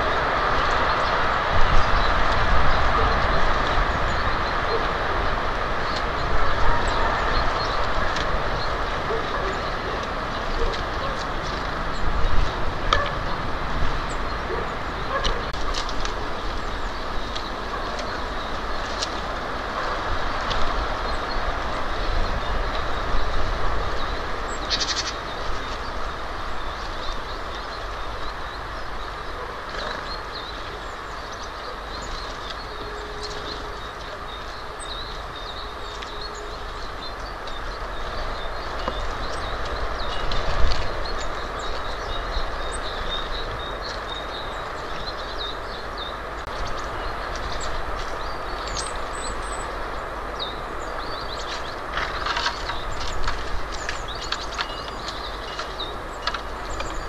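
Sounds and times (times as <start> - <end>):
steady outdoor rumble and hiss: 0.0 - 57.0.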